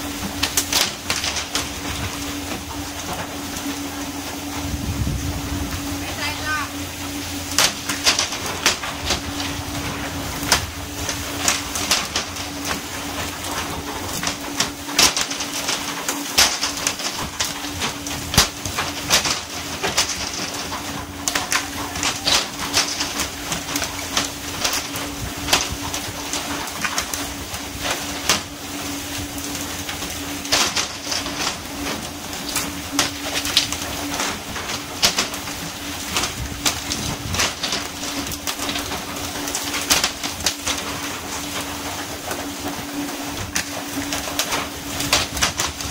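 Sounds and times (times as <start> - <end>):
fishing poles cracking and rattling: 5.8 - 45.9.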